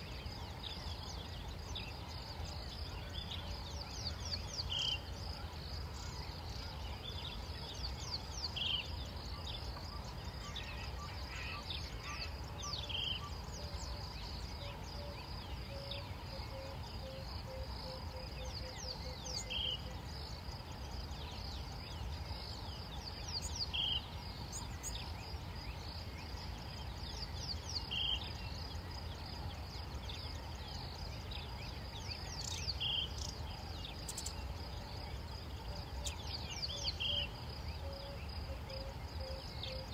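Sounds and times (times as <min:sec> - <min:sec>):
faint bird chirps: 0:00.0 - 0:39.9
high insect drone: 0:00.0 - 0:39.9.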